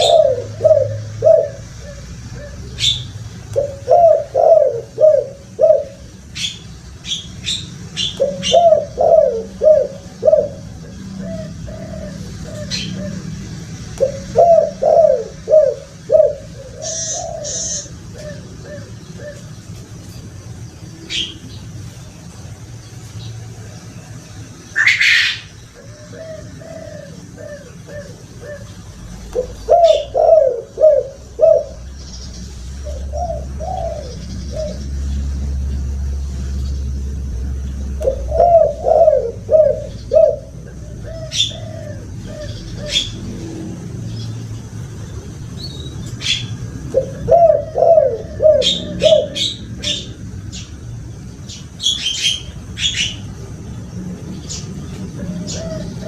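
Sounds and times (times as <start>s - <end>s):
doves cooing: 0.0s - 21.8s, 24.6s - 50.9s, 51.7s - 56.0s
small birds chirping: 0.0s - 56.0s.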